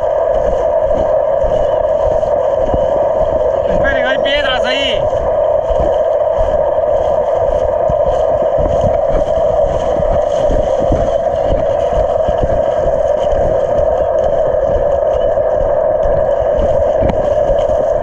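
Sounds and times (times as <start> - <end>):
low rumble: 0.0 - 18.0
steady engine drone: 0.0 - 18.0.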